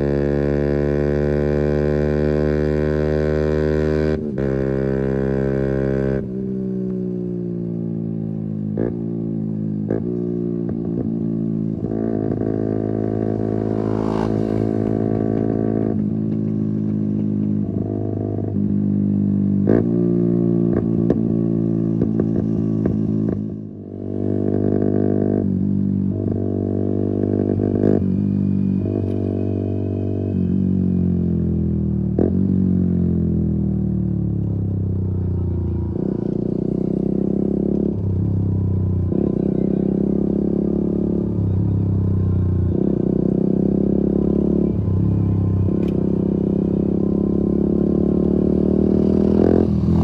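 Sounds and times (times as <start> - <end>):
motorcycle engine shifting gears: 0.0 - 33.7, 34.3 - 50.0.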